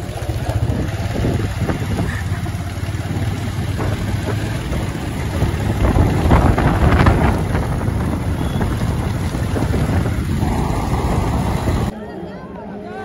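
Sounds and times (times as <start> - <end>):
motorbike engine running: 0.0 - 11.9
wind buffeting microphone: 0.0 - 11.9.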